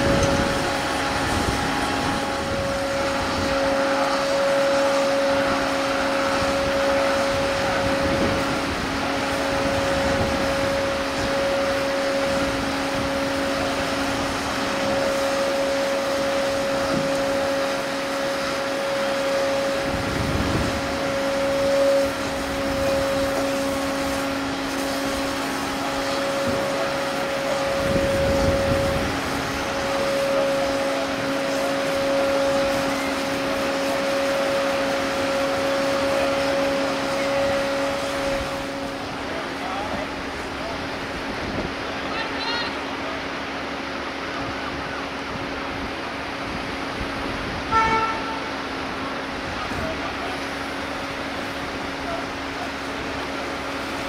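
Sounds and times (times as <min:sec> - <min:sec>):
hose spraying water: 0:00.0 - 0:54.0
tracked tractor running: 0:00.0 - 0:54.0
two-note whine: 0:00.0 - 0:54.0.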